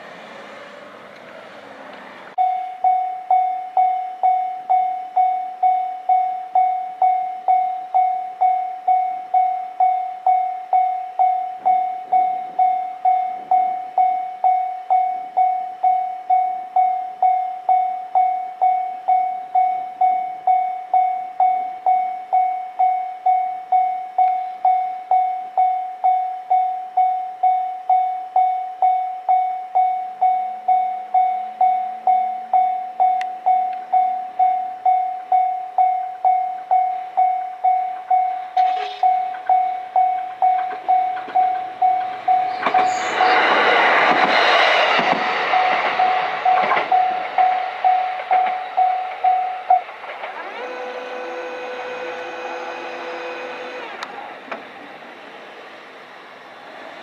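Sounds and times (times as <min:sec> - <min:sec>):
level crossing warning bell: 0:02.4 - 0:53.9.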